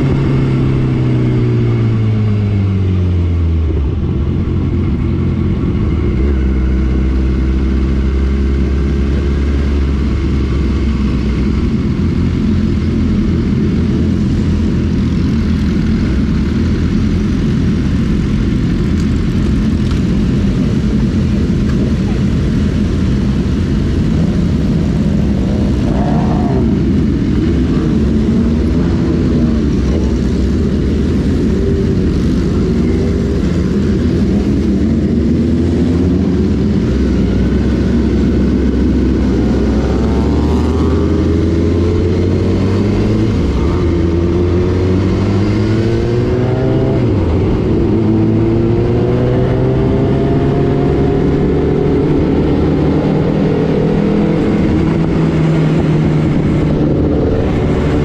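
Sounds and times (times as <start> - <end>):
motorcycle engines accelerating: 0.0 - 58.0.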